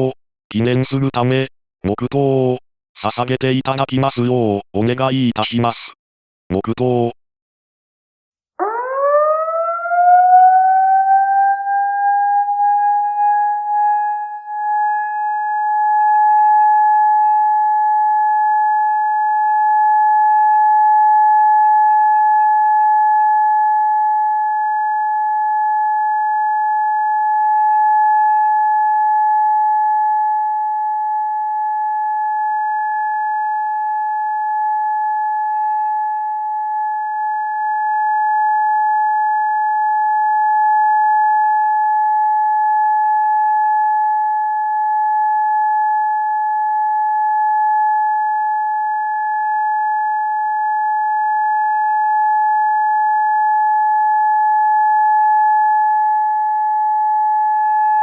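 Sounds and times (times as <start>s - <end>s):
siren long steady tone: 8.5s - 58.0s.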